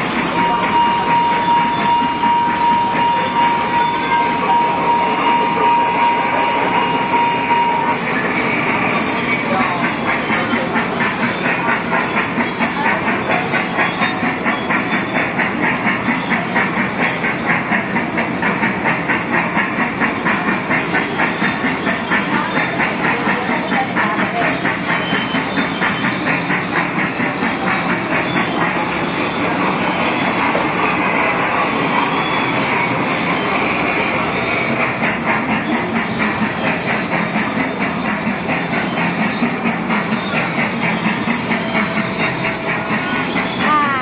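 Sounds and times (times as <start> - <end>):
kiddie ride train rhythmic clatter: 0.0 - 44.0.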